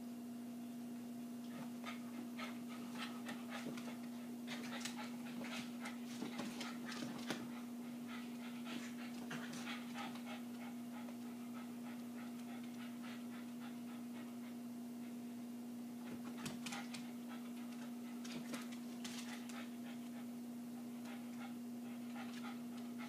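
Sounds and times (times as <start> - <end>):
steady low hum: 0.0 - 23.0
dogs panting in quick puffs: 1.6 - 15.2, 16.1 - 23.0.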